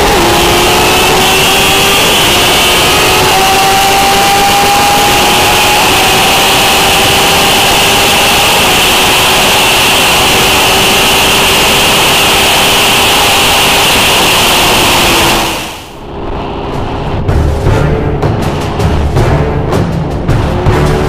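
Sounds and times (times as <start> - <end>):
heavy wind rush: 0.0 - 20.8
motorcycle engine at high rpm: 0.0 - 21.0.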